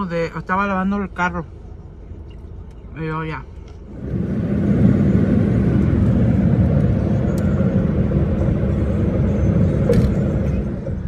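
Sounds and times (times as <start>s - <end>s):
road and wind noise inside car: 0.0s - 11.0s.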